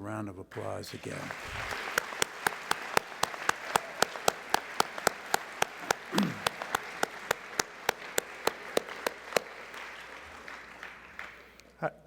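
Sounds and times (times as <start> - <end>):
audience applauding: 0.5 - 11.8
loud close hand claps: 0.6 - 11.7.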